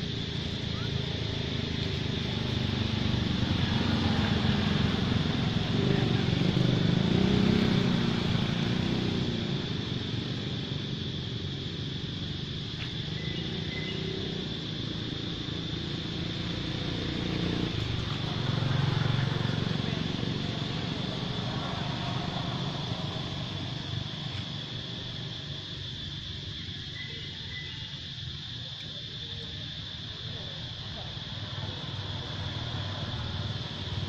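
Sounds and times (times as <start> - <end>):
passing vehicle engine: 0.0 - 26.3, 30.2 - 34.0.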